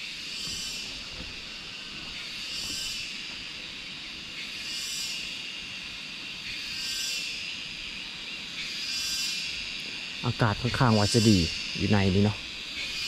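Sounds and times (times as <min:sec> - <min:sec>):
cicadas singing: 0:00.0 - 0:13.0
steady high hiss: 0:00.0 - 0:13.0.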